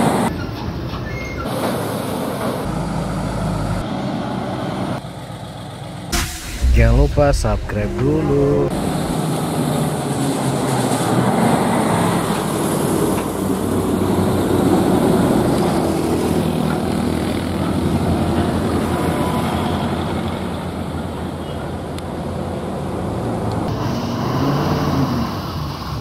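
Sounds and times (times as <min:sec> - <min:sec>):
diesel truck driving past: 0:01.8 - 0:26.0.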